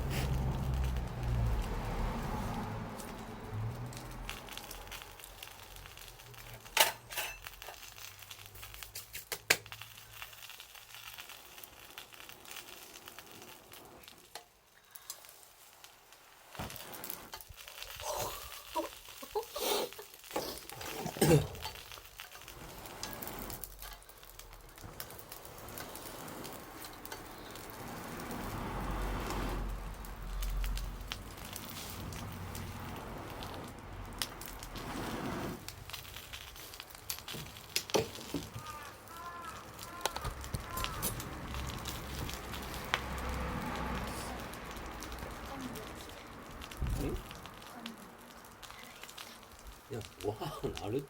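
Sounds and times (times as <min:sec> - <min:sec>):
bonfire crackling: 0:00.0 - 0:51.0
fire popping: 0:00.0 - 0:51.0.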